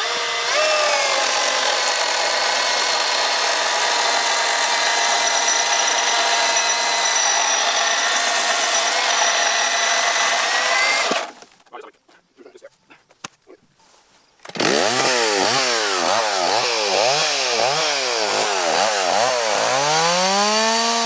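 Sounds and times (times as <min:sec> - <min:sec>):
battery chainsaw cutting wood: 0:00.0 - 0:11.5, 0:14.5 - 0:21.0
gas chainsaw cutting wood: 0:00.0 - 0:11.5, 0:14.5 - 0:21.0.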